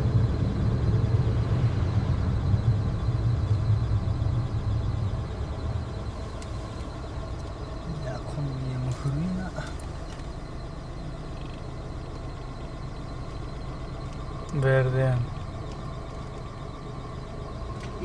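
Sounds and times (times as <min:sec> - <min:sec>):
car engine hum: 0:00.0 - 0:18.0
road noise: 0:00.0 - 0:18.0.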